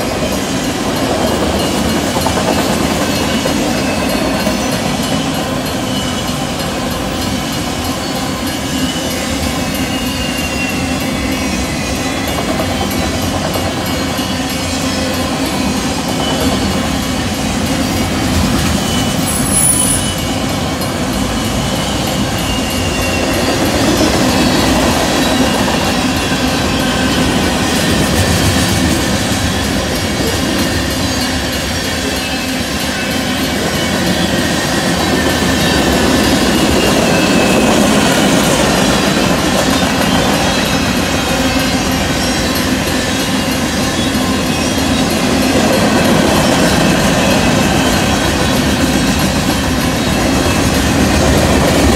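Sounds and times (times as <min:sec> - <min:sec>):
high wheel squeals: 0:00.0 - 0:51.0
train wheels rumbling on rails: 0:00.0 - 0:51.9.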